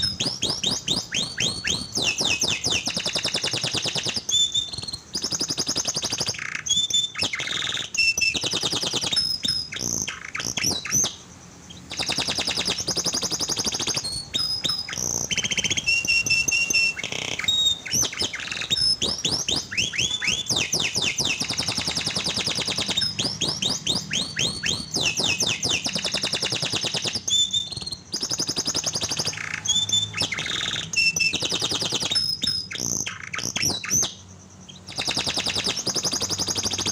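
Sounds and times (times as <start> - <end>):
canary trilling song: 0.0 - 36.9.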